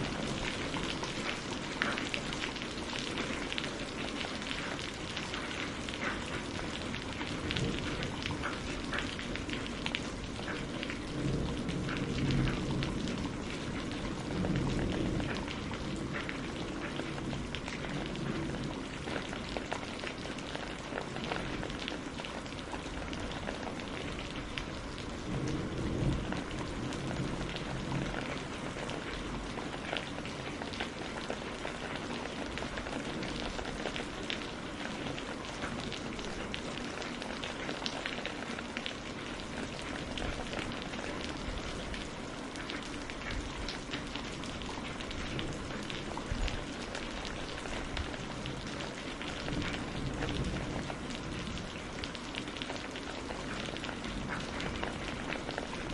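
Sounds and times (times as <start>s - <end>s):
rain on a greenhouse roof: 0.0s - 55.9s.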